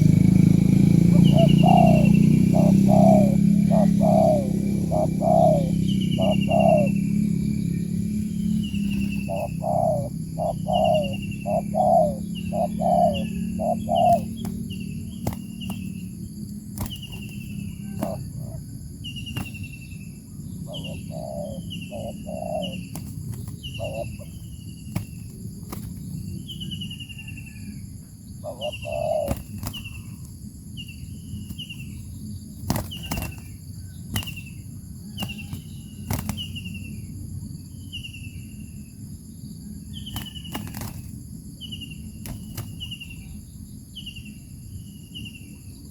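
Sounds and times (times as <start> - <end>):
lower clipped bird notes: 0.0 - 37.2.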